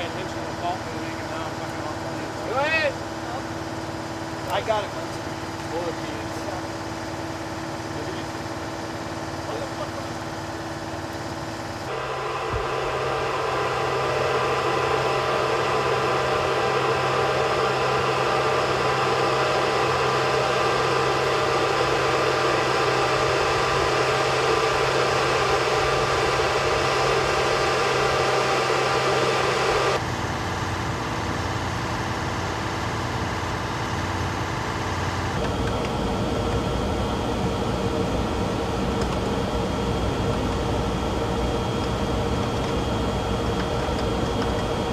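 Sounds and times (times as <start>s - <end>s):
machinery humming: 0.0s - 44.9s.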